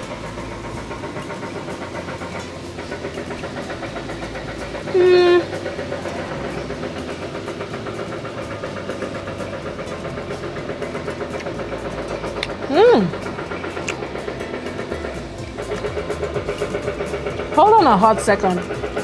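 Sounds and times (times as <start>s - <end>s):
construction machinery droning: 0.0s - 19.0s.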